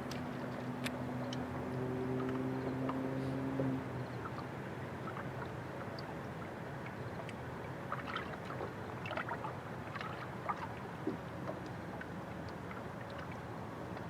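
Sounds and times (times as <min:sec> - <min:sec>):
light splashes and taps: 0:00.0 - 0:14.0
rush of wind and water: 0:00.0 - 0:14.0
water lapping against boat hull: 0:00.0 - 0:14.0.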